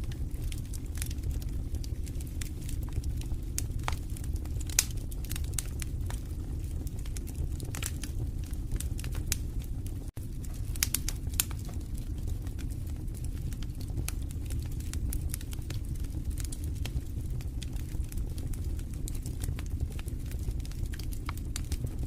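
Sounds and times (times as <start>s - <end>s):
burning wood crackling and popping: 0.0s - 22.0s
fire flames rumbling: 0.0s - 22.0s.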